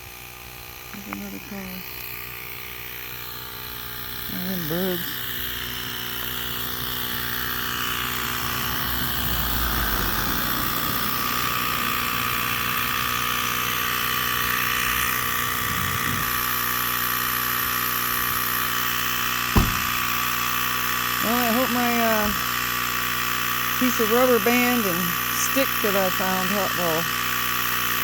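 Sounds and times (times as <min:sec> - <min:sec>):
electric tire inflator running: 0:00.0 - 0:28.0.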